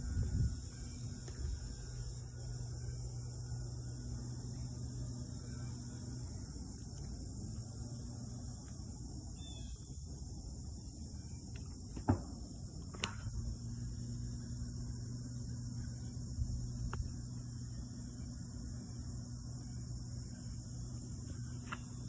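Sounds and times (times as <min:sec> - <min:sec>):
insect chorus: 0:00.0 - 0:22.0
low steady hum: 0:00.0 - 0:22.0.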